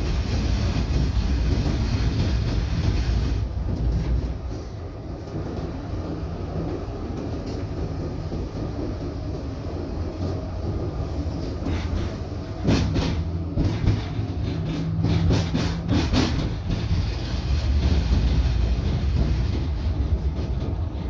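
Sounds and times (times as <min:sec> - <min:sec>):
tram rumble and hum: 0:00.0 - 0:21.0
wheels clacking on track: 0:00.0 - 0:21.0.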